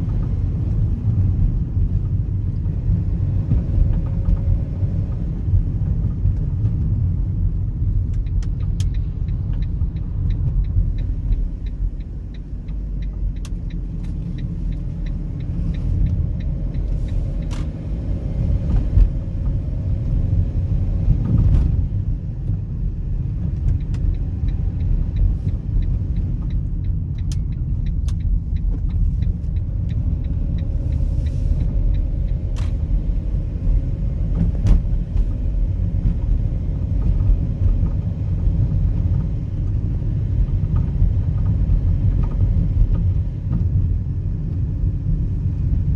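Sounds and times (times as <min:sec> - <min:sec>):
road rumble: 0:00.0 - 0:45.9
suspension rattles and clunks: 0:00.0 - 0:45.9.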